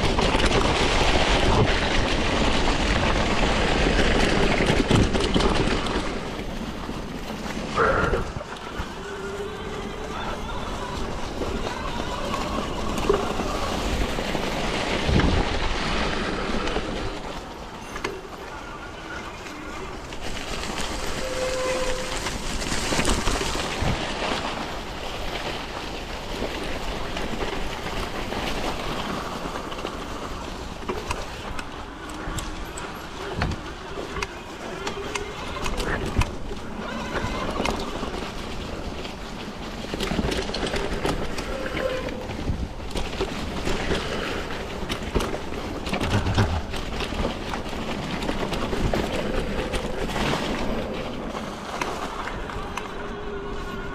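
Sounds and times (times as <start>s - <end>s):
bike rattling and knocking: 0.0s - 18.8s, 19.9s - 53.1s
wind and tyre noise: 0.0s - 53.9s.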